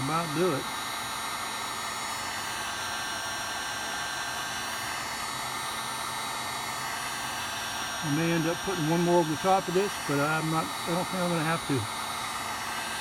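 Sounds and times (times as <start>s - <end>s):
faint motor whine: 0.0s - 13.0s
heat gun blowing air: 0.0s - 13.0s.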